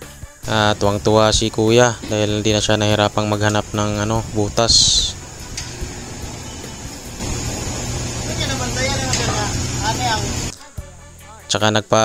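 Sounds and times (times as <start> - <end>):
background music: 0.0 - 12.0
steady noisy hiss: 0.4 - 11.0.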